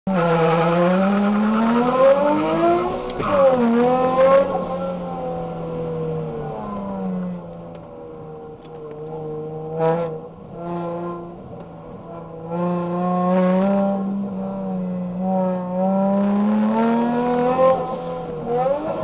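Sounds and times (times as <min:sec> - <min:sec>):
car engine revving: 0:00.1 - 0:19.0.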